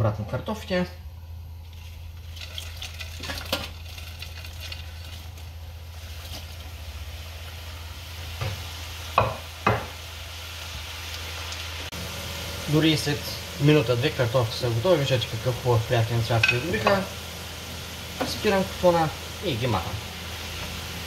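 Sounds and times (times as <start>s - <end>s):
fries sizzling in hot oil: 1.5s - 21.0s.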